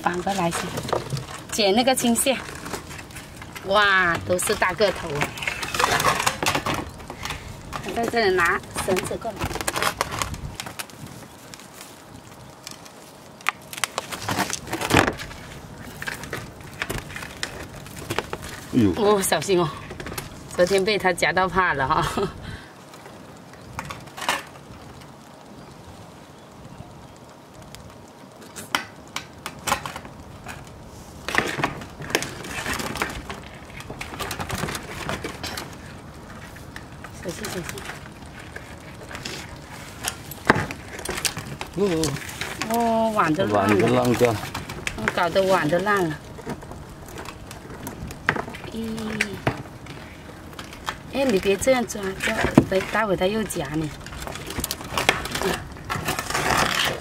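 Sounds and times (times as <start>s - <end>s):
crab net rustling: 0.0s - 57.0s.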